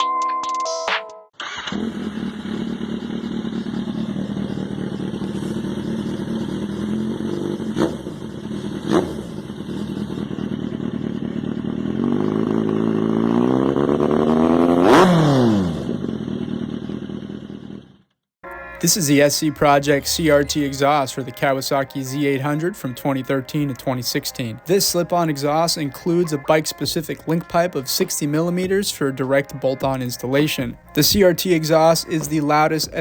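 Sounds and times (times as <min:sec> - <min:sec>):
motorcycle engine revving: 0:01.4 - 0:33.0.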